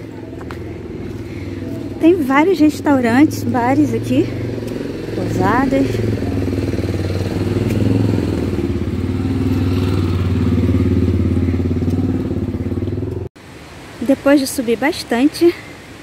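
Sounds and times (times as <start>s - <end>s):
car engine humming: 0.0s - 13.3s.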